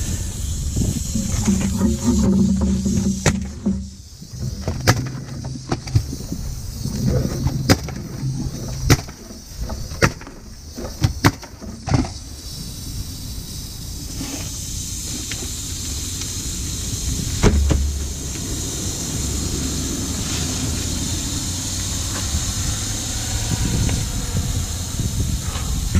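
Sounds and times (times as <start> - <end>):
steady air hiss: 0.0 - 25.9.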